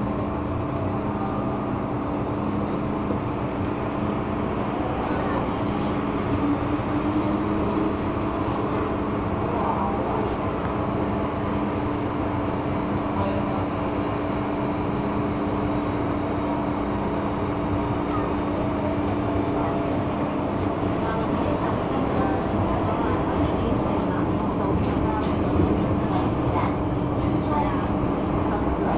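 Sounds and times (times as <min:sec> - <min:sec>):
rumble of wheels on rail: 0:00.0 - 0:28.9.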